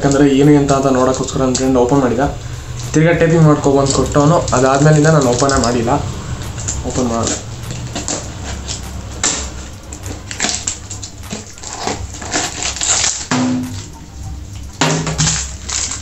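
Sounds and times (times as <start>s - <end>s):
packaging crinkling and rustling: 0.0s - 14.0s, 14.6s - 16.0s.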